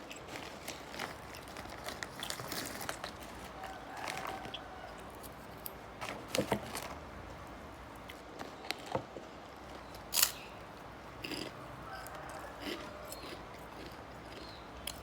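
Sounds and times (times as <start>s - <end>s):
crunching and chewing: 0.0s - 7.1s, 7.9s - 15.0s.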